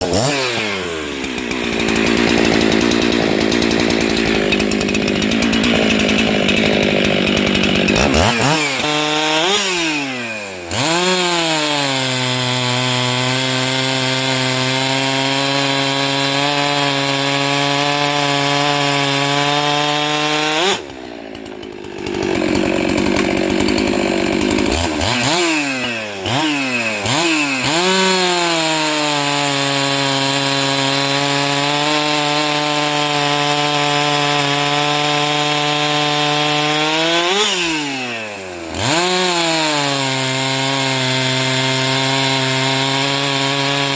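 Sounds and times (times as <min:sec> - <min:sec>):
chainsaw cutting wood: 0:00.0 - 0:43.9
chainsaw revving: 0:00.0 - 0:43.9.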